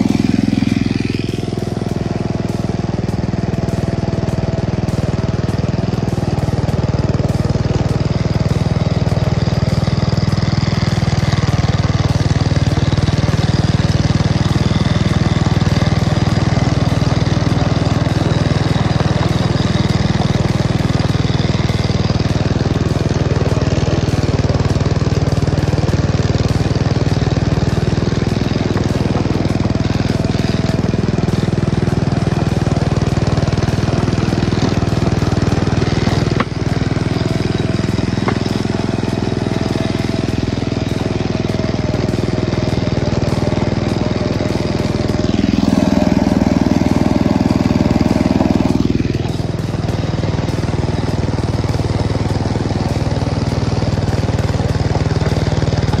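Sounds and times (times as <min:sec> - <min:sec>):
small locomotive engine running: 0:00.0 - 0:56.0.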